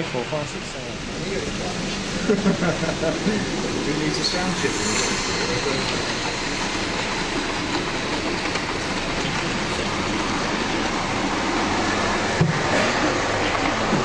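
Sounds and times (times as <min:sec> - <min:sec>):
model trains rolling on rails: 0:00.0 - 0:14.0.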